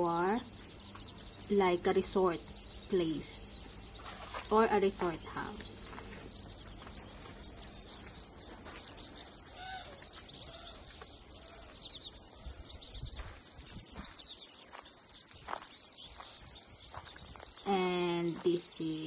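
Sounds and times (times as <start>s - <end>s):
lower arched bird calls: 0.0s - 18.4s
small birds chirping rapidly: 0.0s - 19.0s.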